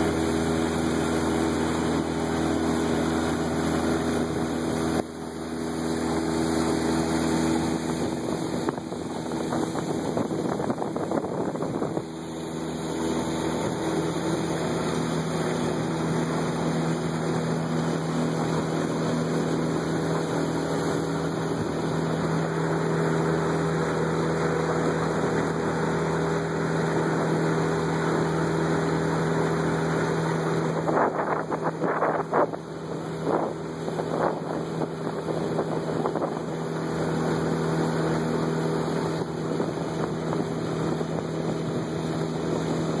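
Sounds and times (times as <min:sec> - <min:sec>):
motorboat engine hum: 0:00.0 - 0:43.0
wind on microphone: 0:05.8 - 0:43.0.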